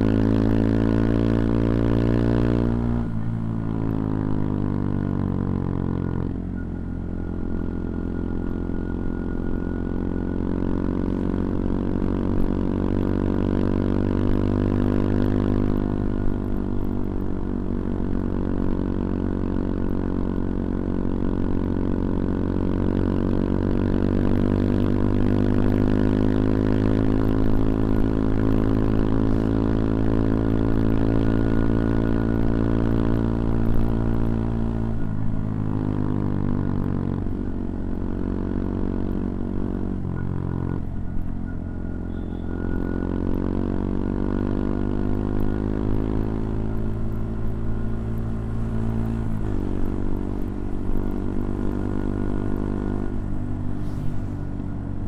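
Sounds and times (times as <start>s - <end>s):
minibike engine under throttle: 0.0s - 55.0s.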